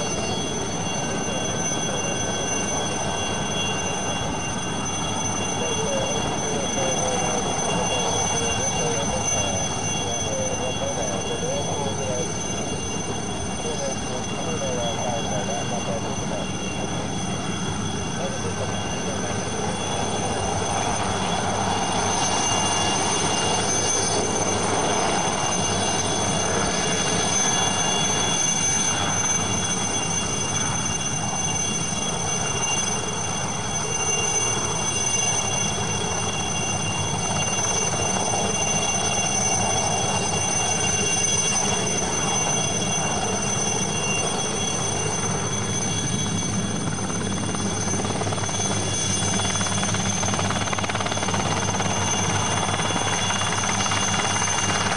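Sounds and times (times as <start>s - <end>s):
helicopter rotor drone: 0.0s - 54.9s
helicopter turbine whine: 0.0s - 54.9s.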